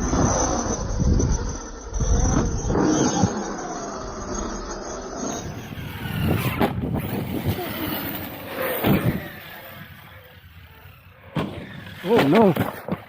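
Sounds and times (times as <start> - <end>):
electric motor whining: 0.0 - 13.0
tyres on gravel: 2.2 - 13.0.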